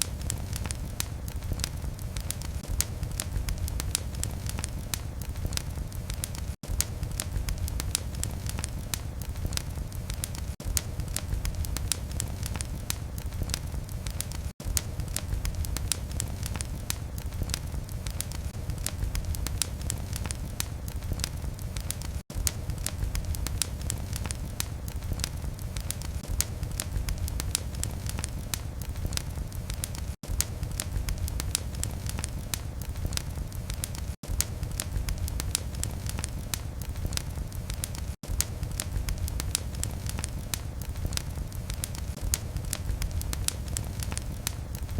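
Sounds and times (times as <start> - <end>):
low fire rumble: 0.0 - 44.9
wood fire crackling: 0.0 - 44.9.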